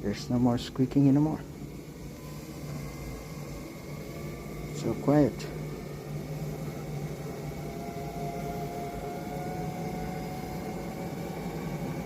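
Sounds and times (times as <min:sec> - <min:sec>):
treadmill humming with faint whine: 0:00.0 - 0:12.0.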